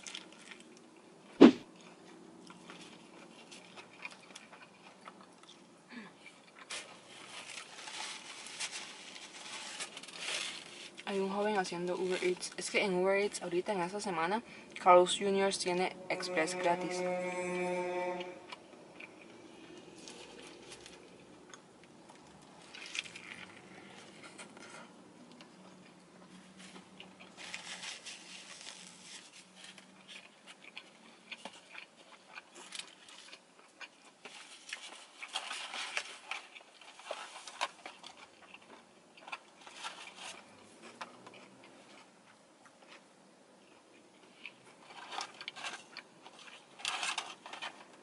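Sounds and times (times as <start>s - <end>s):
chewing and crunching burger: 0.0s - 12.6s, 17.3s - 48.0s.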